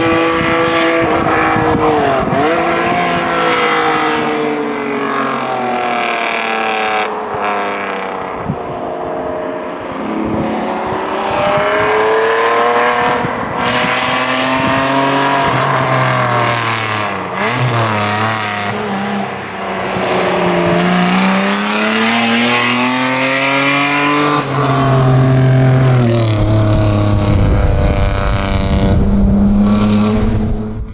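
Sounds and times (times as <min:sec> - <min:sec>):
car engine revving: 0:00.0 - 0:08.2, 0:10.5 - 0:30.9.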